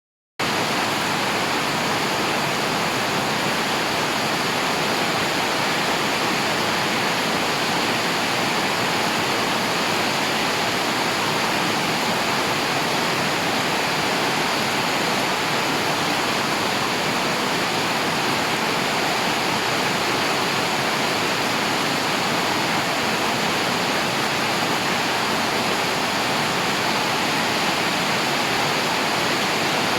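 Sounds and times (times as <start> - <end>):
heavy rain hissing: 0.4 - 29.9.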